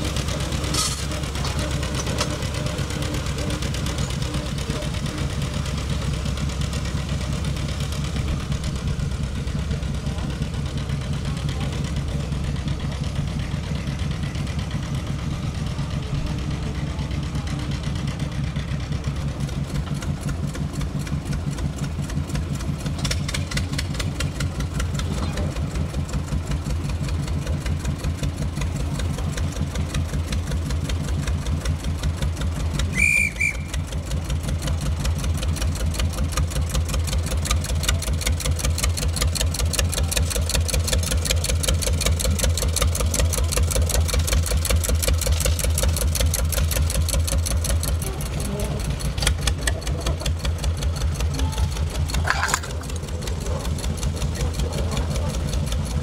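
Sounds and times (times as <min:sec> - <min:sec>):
diesel locomotive engine knocking: 0:00.0 - 0:56.0.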